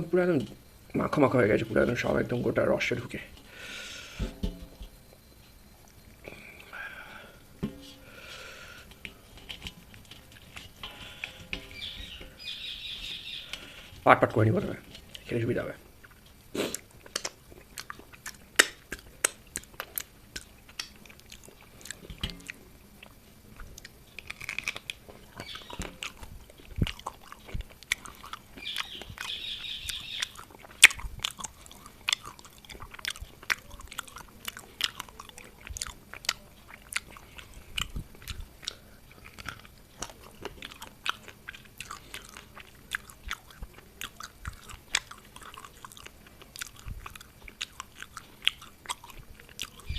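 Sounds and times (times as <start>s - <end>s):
crunching and chewing: 8.0s - 49.9s.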